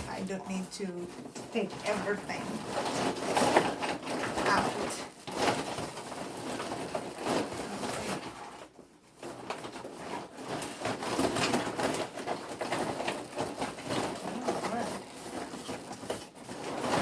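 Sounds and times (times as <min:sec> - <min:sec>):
packing material rustling: 0:00.0 - 0:17.0.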